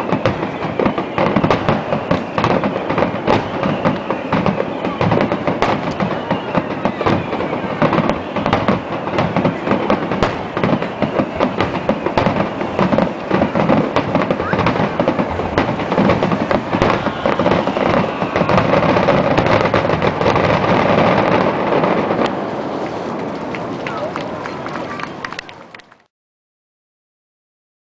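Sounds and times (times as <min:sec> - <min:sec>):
fireworks bangs and crackling: 0:00.0 - 0:26.1.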